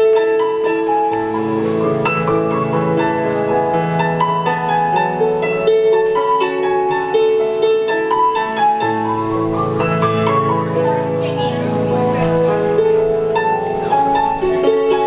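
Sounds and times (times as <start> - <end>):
solo piano melody: 0.0 - 15.0.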